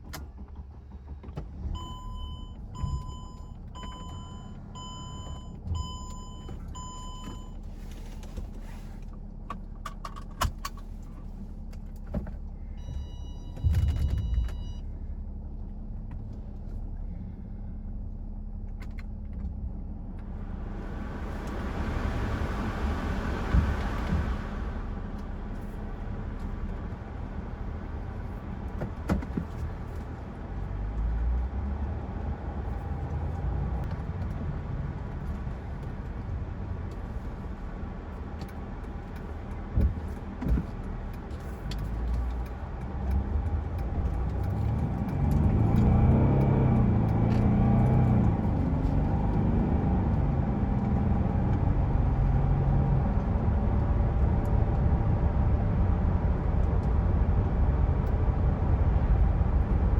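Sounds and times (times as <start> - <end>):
diesel car engine driving: 0.0 - 59.9.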